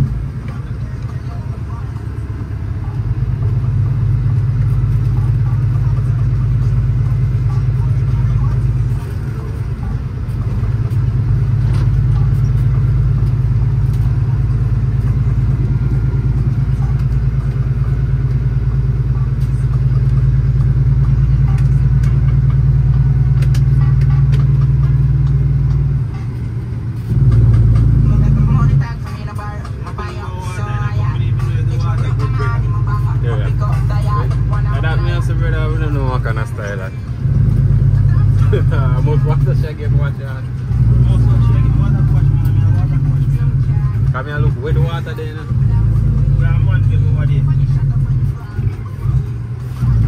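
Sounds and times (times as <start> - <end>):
diesel truck engine droning: 0.0 - 50.0.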